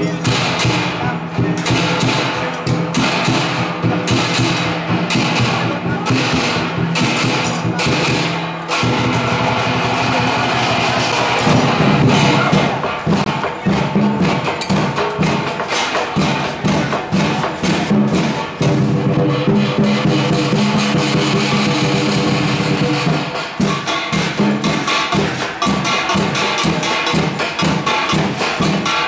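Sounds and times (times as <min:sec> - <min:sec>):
cymbal strikes: 0:00.0 - 0:29.0
drums: 0:00.0 - 0:29.0
wood-block strikes: 0:00.0 - 0:29.0.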